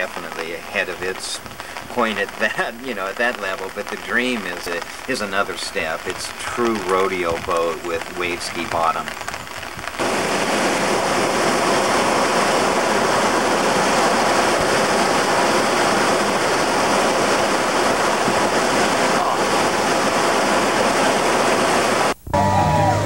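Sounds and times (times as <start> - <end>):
ocean surf breaking: 0.0 - 22.2.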